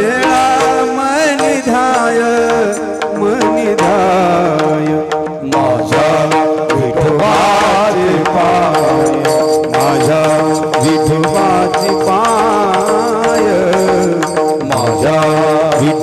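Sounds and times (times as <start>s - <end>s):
drum strokes: 0.0s - 16.0s
man singing devotional song: 0.0s - 16.0s.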